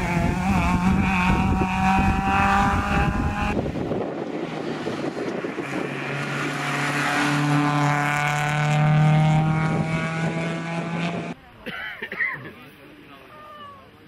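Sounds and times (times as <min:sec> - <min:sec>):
rally car driving past: 0:00.0 - 0:11.4.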